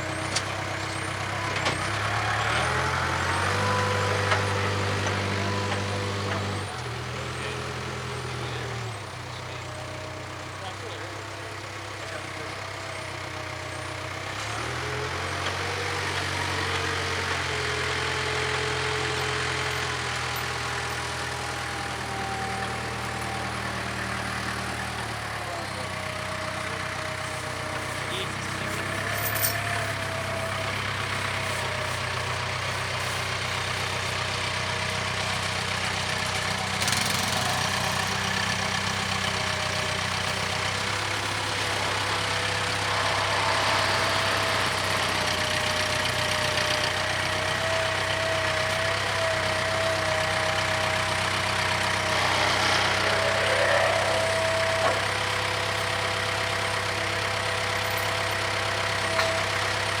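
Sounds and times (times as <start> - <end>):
backhoe diesel engine running: 0.0 - 60.0.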